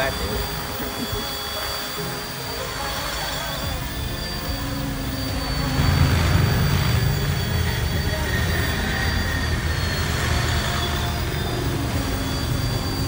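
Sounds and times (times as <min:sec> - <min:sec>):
helicopter motor whine: 0:00.0 - 0:13.0
rotor rushing: 0:00.0 - 0:13.0.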